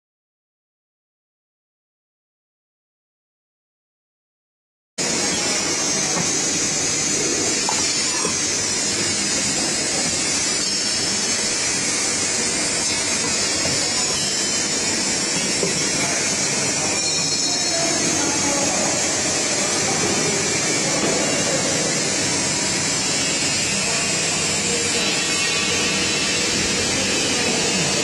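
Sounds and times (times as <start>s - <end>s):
screen printing machine running: 5.0s - 28.0s.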